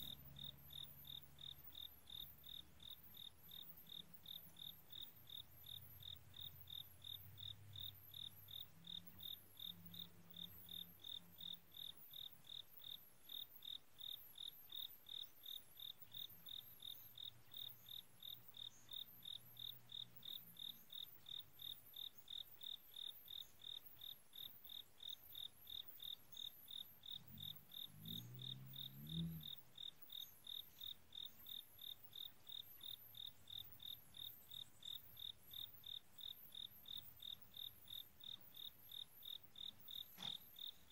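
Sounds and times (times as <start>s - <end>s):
cricket chirping: 0.0s - 40.9s
faint low hum: 0.0s - 40.9s.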